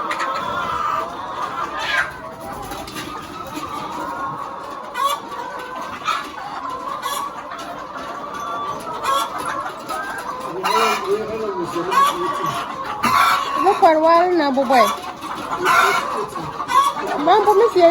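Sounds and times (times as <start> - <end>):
hens clucking: 0.0 - 17.9
hens squawking: 0.0 - 17.9.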